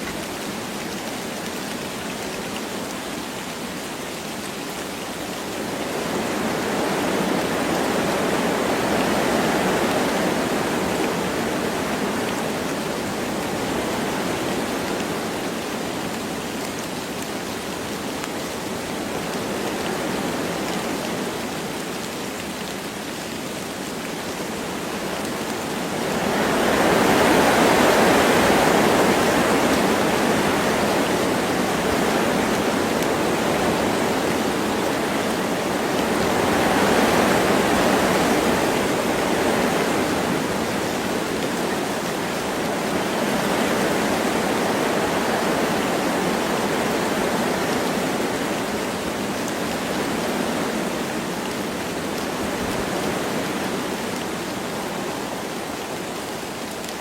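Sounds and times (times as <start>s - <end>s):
light rain: 0.0s - 57.0s
wind blowing through trees: 0.0s - 57.0s.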